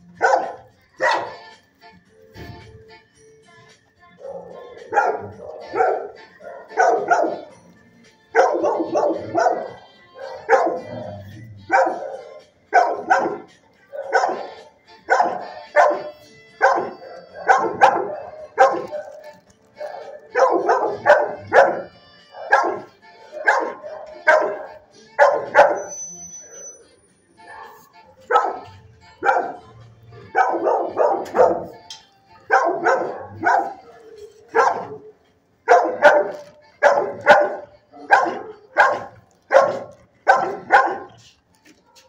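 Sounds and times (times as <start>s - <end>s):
dog barking: 0.1s - 1.5s, 4.2s - 7.6s, 8.3s - 26.0s, 27.4s - 31.8s, 32.4s - 42.0s.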